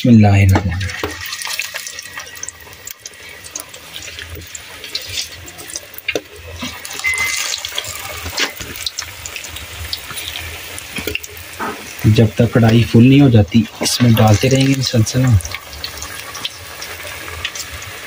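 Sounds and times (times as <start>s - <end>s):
batter sizzling in hot oil: 0.0s - 18.0s.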